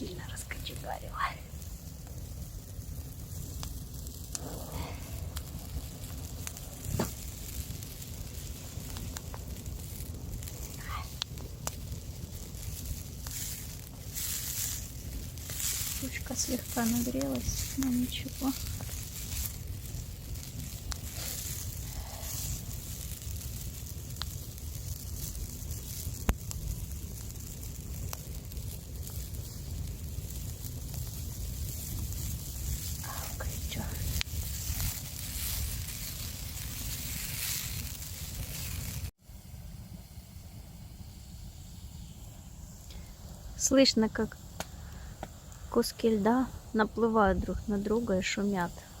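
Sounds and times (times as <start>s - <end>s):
campfire rumble: 0.0s - 49.0s
fire crackling pops: 0.0s - 49.0s.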